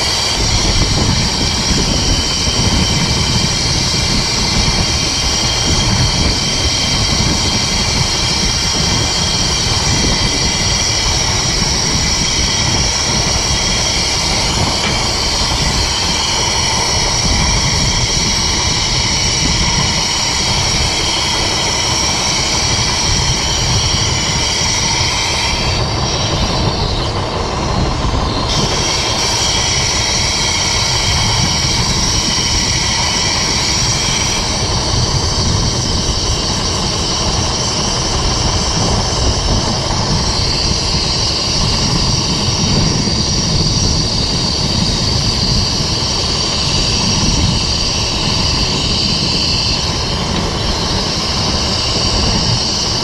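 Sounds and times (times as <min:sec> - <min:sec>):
dozer engine rumble: 0:00.0 - 0:53.0
high-pitched whine: 0:00.0 - 0:53.0.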